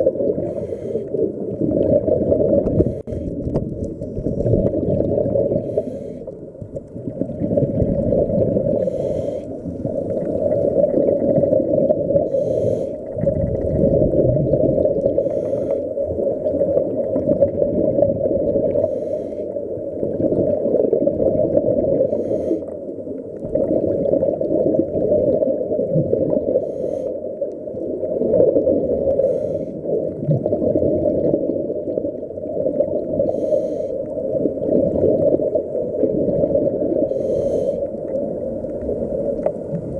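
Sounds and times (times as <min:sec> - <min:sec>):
underwater rumble and gurgle: 0:00.0 - 0:39.9.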